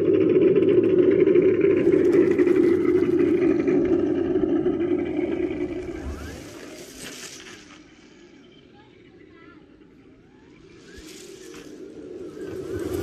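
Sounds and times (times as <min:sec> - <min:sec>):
simulated truck engine: 0:00.0 - 0:13.0.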